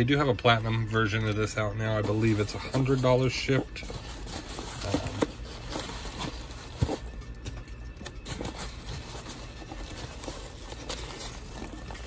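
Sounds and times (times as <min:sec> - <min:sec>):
packing peanuts rustling: 0:00.0 - 0:12.0.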